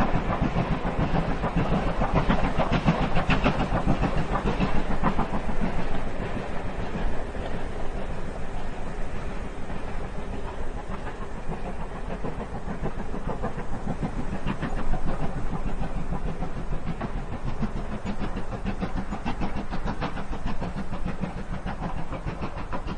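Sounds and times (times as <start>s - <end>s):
steam train rumbling: 0.0s - 22.9s
train clanks and clicks: 0.0s - 22.9s.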